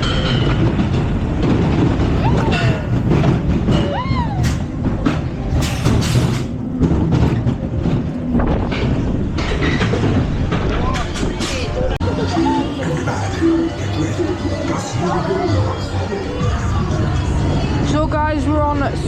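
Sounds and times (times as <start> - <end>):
ride machinery rumbling and clattering: 0.0 - 19.0.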